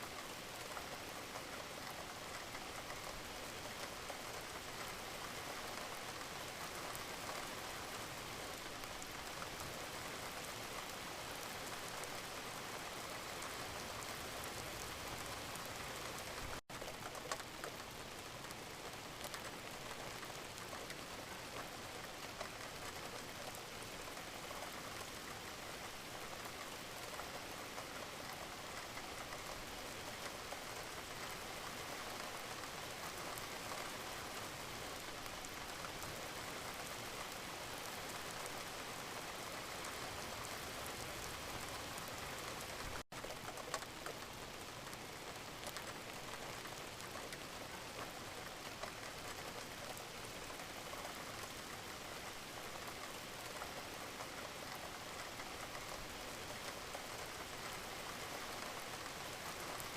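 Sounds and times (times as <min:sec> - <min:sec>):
gentle rain: 0:00.0 - 0:59.9.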